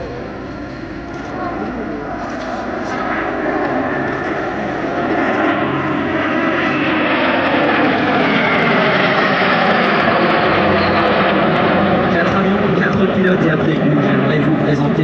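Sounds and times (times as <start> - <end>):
jet aircraft flying past: 0.0 - 15.0
jet whine falling in pitch: 0.0 - 15.0.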